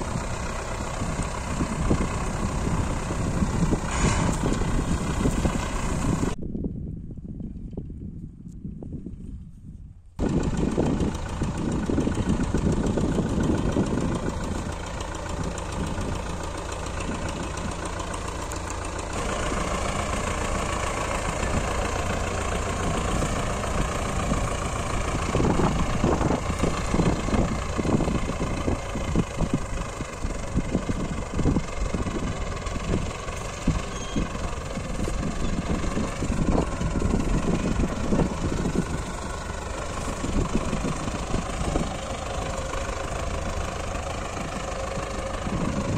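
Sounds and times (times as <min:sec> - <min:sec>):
tractor diesel engine running: 0:00.0 - 0:06.4, 0:10.2 - 0:45.9.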